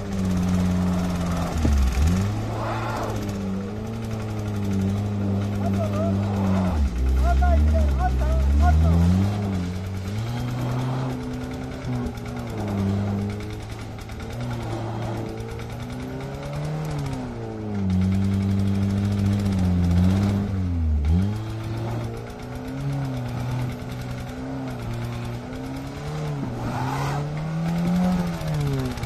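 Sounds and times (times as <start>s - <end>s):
engine straining under heavy load: 0.0s - 29.0s.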